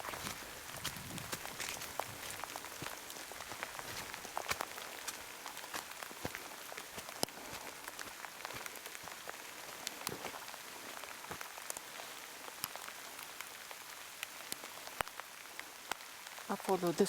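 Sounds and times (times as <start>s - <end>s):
heavy rain falling: 0.0s - 17.0s
raindrops ticking close by: 0.0s - 17.0s.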